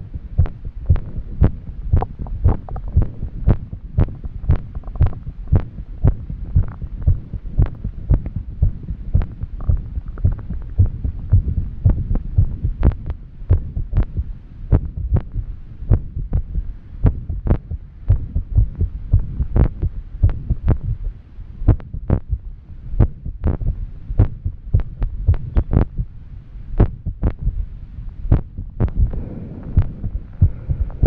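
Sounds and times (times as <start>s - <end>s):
fast irregular heartbeat: 0.0s - 26.2s, 26.8s - 27.7s, 28.3s - 31.0s.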